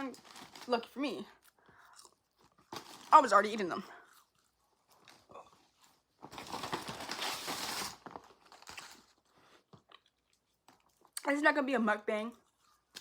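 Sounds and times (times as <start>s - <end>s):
food packaging rustling: 0.0s - 3.6s, 4.3s - 11.2s.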